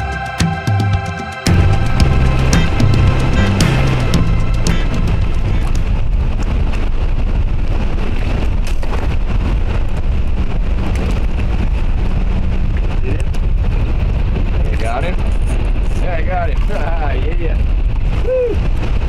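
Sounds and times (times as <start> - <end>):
wind buffeting microphone: 1.5 - 19.0.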